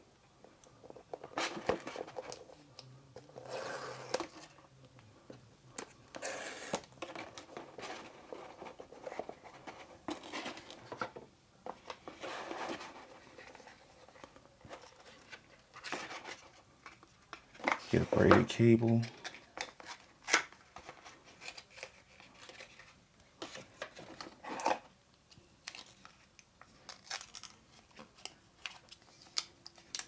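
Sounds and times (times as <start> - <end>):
cardboard and paper rustling: 0.8 - 24.9.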